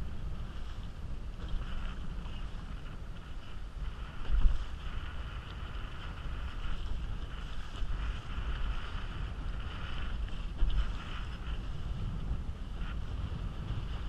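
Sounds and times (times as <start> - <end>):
water rushing along a hull: 0.0 - 14.0
wind buffeting microphone: 0.0 - 14.0.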